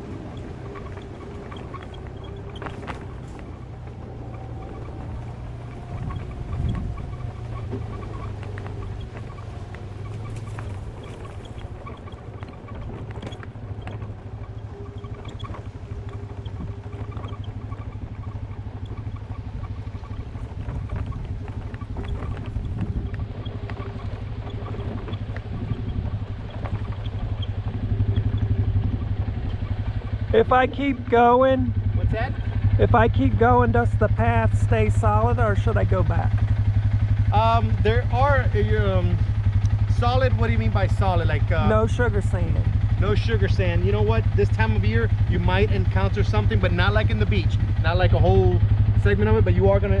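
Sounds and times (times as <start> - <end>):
low motor hum: 0.0 - 50.0
tyres and frame rattling: 0.0 - 50.0.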